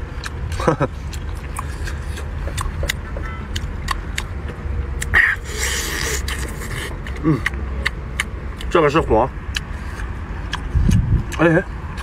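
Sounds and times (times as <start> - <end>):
steady low rumble: 0.0 - 12.0
wet chewing and biting: 0.0 - 12.0.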